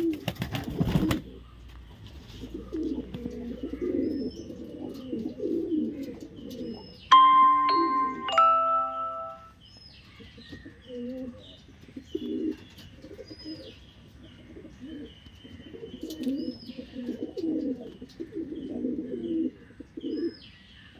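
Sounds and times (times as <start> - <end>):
pigeons cooing: 0.0 - 7.1, 10.1 - 20.5.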